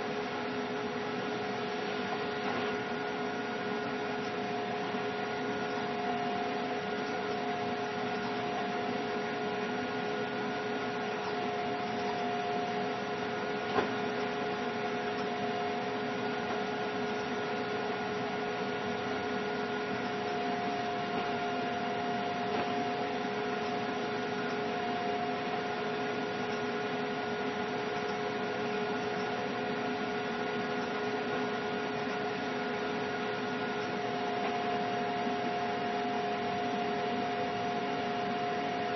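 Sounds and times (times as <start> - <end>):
electrical hum: 0.0 - 38.9.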